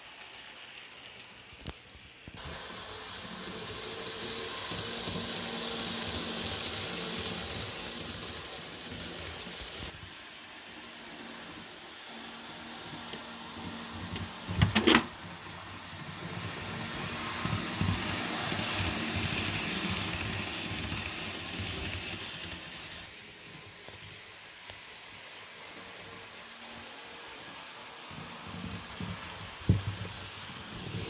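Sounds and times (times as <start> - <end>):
model train rolling whir: 0.0 - 31.0.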